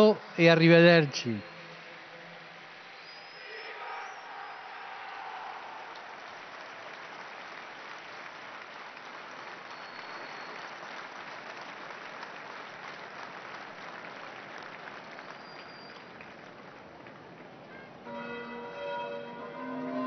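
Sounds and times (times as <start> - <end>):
large crowd applauding: 0.0 - 17.8.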